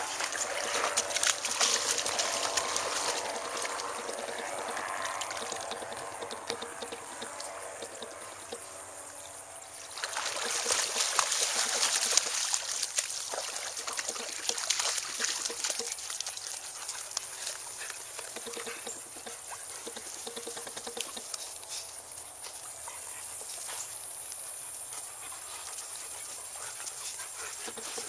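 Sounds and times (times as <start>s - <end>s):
dogs splashing through water: 0.0s - 28.0s.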